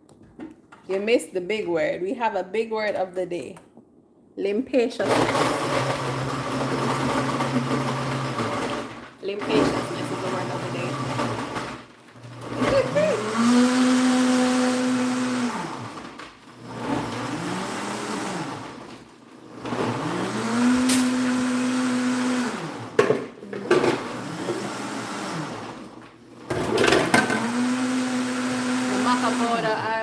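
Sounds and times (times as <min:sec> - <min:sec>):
blender motor whining: 0:05.0 - 0:30.0.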